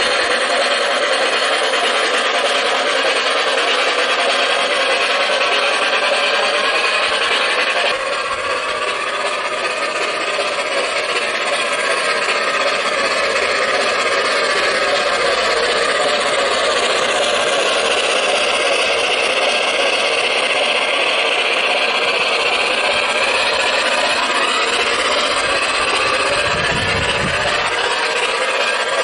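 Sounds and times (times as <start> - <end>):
model locomotive rattling on track: 0.0 - 29.0.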